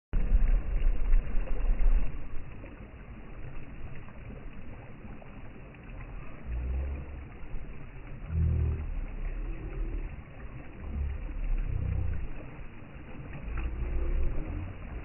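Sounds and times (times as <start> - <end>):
low rumbles of waves: 0.1 - 15.0
ocean waves washing in: 0.2 - 15.0.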